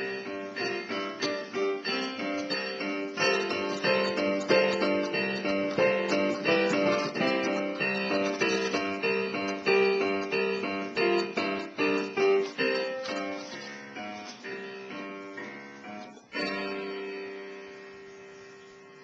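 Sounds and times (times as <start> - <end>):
digital piano playing: 0.0 - 19.0.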